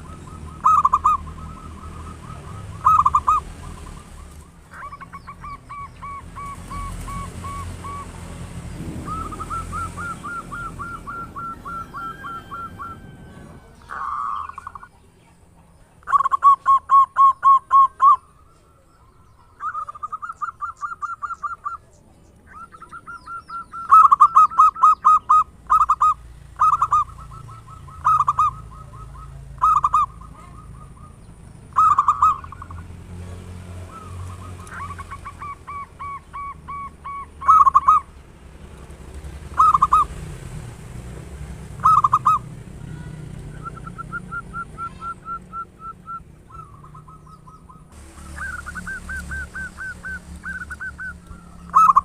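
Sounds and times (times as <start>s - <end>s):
dove cooing in rapid staccato notes: 0.0s - 18.2s, 22.6s - 32.9s, 33.9s - 38.2s, 38.8s - 40.4s, 41.7s - 52.0s.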